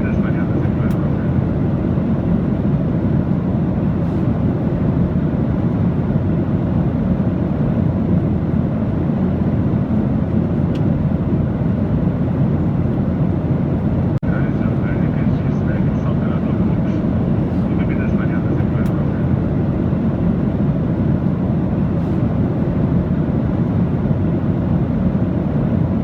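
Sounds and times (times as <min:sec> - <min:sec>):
aircraft in flight: 0:00.0 - 0:26.0.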